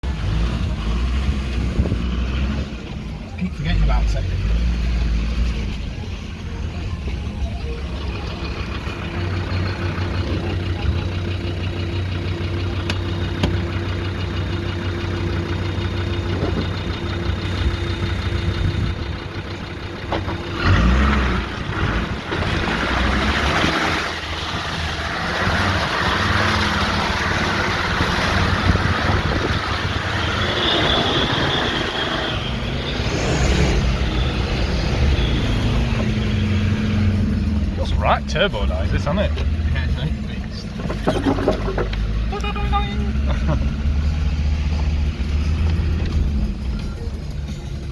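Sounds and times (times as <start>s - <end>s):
diesel engine idling and revving: 0.0s - 47.9s.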